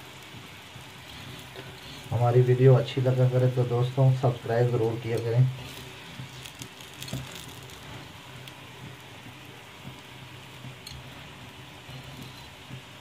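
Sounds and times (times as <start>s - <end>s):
flatbread sizzling in a pan: 0.0s - 13.0s.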